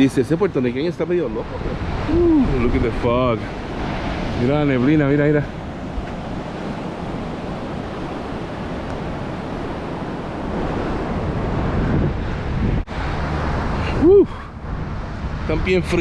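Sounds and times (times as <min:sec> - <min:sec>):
ocean surf washing on beach: 0:00.0 - 0:16.0
wind buffeting microphone: 0:00.0 - 0:16.0.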